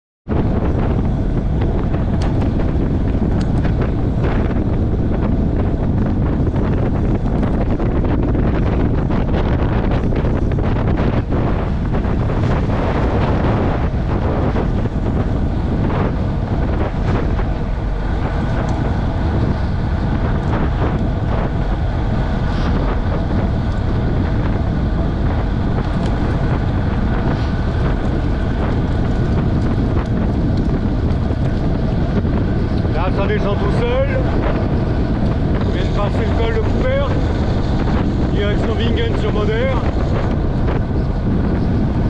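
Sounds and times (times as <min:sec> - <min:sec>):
wind buffeting microphone: 0:00.2 - 0:42.0.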